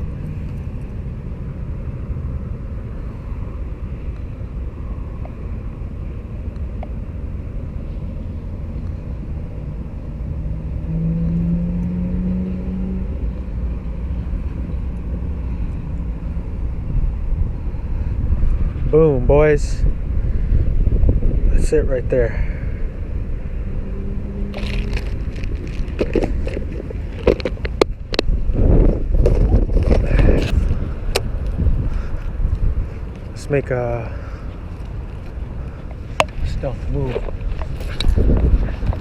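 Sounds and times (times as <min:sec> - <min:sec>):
vehicle engine hum: 0:00.0 - 0:39.0.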